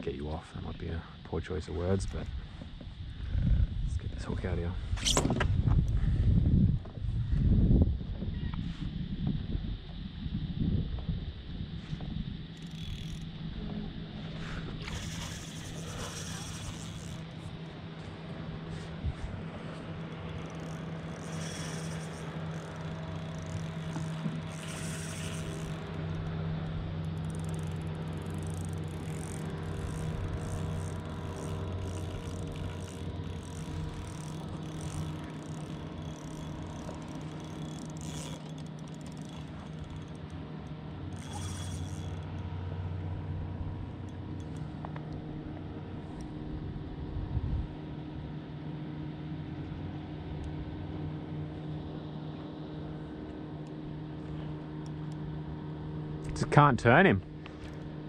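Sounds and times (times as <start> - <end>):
engine humming: 9.1 - 58.0.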